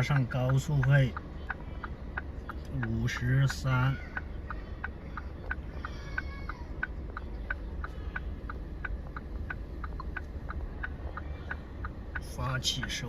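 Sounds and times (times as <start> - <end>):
car indicator ticking: 0.0 - 13.0
low hum of car: 0.0 - 13.0.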